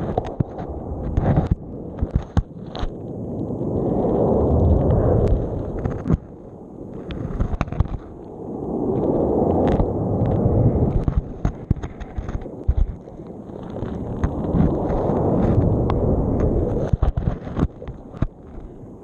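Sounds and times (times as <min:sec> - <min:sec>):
camera scraping on sea bed: 0:00.0 - 0:08.3, 0:08.9 - 0:19.0
underwater sea surge: 0:00.0 - 0:19.0.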